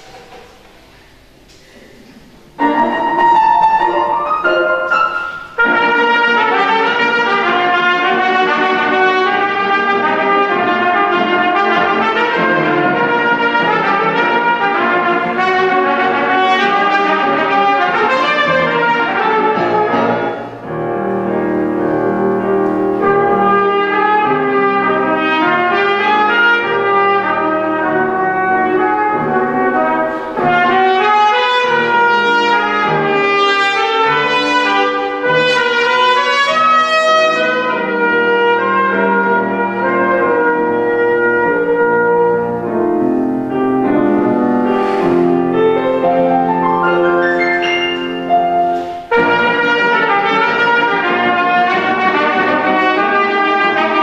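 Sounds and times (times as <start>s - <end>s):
grand piano accompaniment: 0.0s - 54.0s
trumpet playing classical piece: 2.5s - 54.0s.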